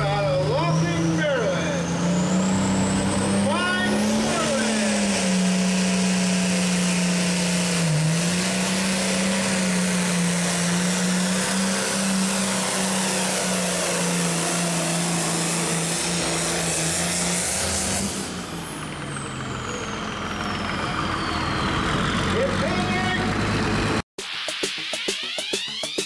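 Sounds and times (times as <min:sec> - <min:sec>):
tractor diesel engine at full throttle: 0:00.0 - 0:24.1.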